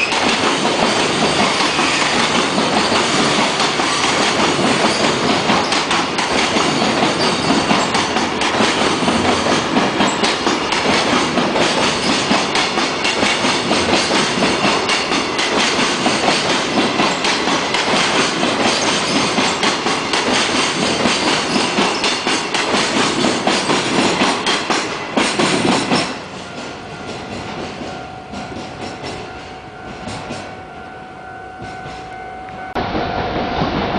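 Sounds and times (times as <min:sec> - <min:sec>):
train wheels clattering over rails: 0:00.0 - 0:30.6.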